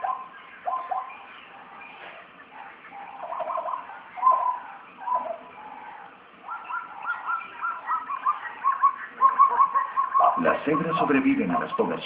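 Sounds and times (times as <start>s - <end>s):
wild animal calls: 0.0s - 12.0s.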